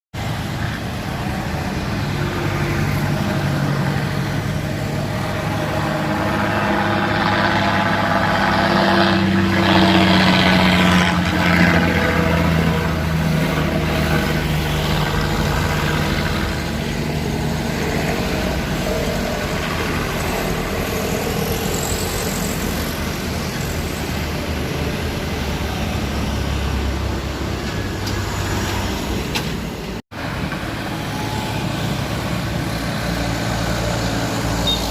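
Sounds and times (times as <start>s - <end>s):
road traffic: 0.1s - 34.9s
truck engine labouring uphill: 0.2s - 34.9s.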